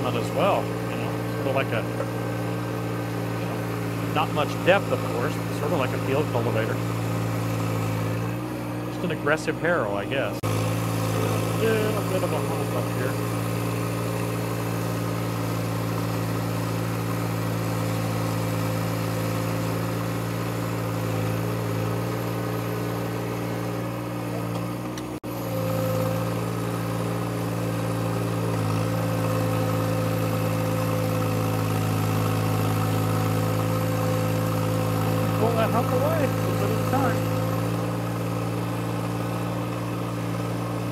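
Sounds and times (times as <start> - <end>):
leveler pushing through dirt: 0.0 - 9.5, 10.3 - 40.9
diesel tractor engine running: 0.0 - 40.9.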